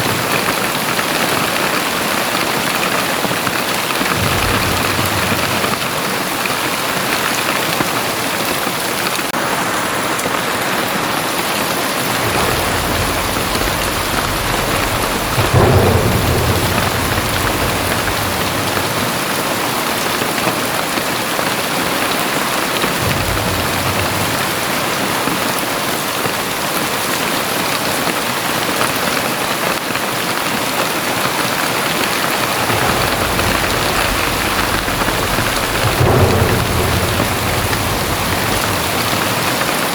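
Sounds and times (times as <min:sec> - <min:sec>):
thunder rumbling: 0:00.0 - 0:09.7, 0:11.3 - 0:28.1, 0:31.0 - 0:39.9
heavy rain pouring: 0:00.0 - 0:39.9.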